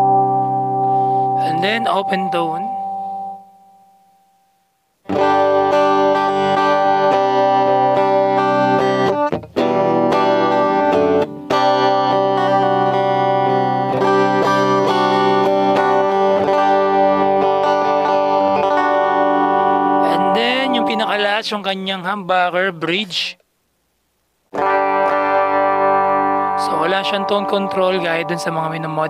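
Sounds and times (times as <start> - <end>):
clean electric guitar: 0.0 - 21.7, 24.5 - 29.0.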